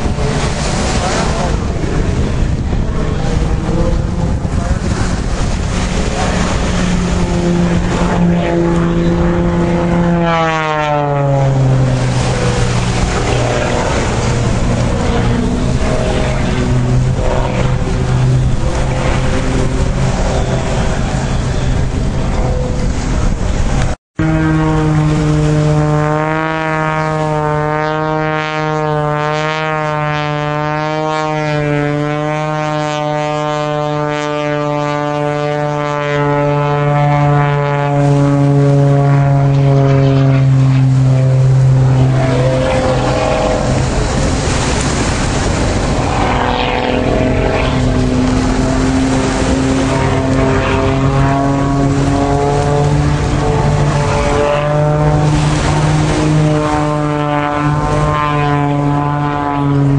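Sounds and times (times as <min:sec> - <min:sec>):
loud rushing noise: 0:00.0 - 0:28.2, 0:37.2 - 0:59.9
propeller plane engine droning: 0:00.0 - 0:59.9.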